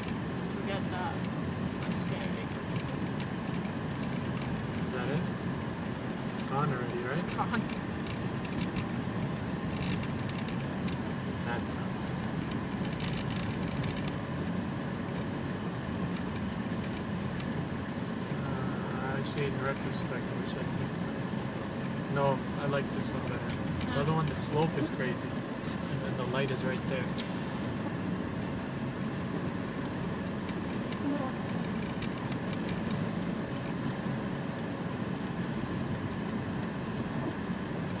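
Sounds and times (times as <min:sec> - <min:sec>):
car engine and tyres droning: 0:00.0 - 0:38.0.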